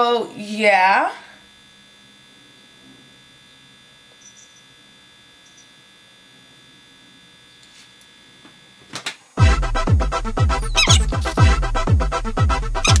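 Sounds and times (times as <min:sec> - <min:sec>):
faint electrical hum and buzz: 0:00.0 - 0:13.0.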